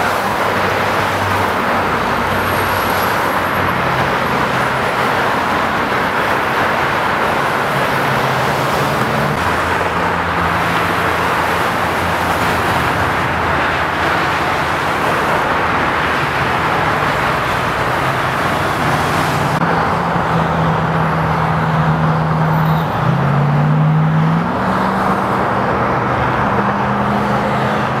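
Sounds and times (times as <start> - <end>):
freeway traffic rushing: 0.0 - 28.0.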